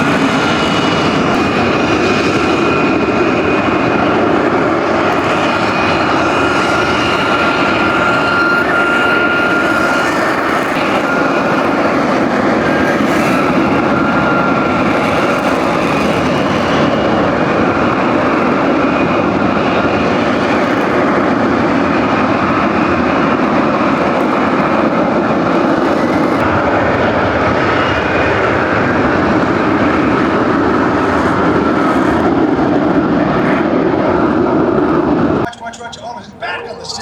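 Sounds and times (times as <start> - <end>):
aircraft engine noise: 0.0 - 37.0.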